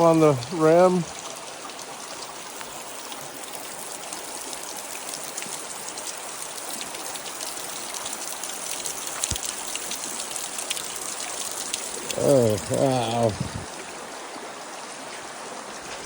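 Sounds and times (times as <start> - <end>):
creek water rushing: 0.0 - 16.0
water drips and splashes: 0.0 - 16.0.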